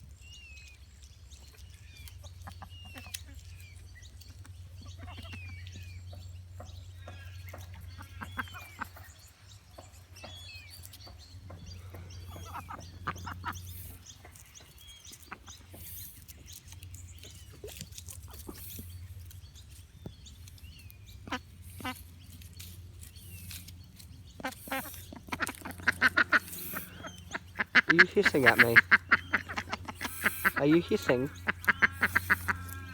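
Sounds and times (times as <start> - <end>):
ducks and waterbirds calling: 0.0 - 32.9
steady low hum: 3.6 - 32.9.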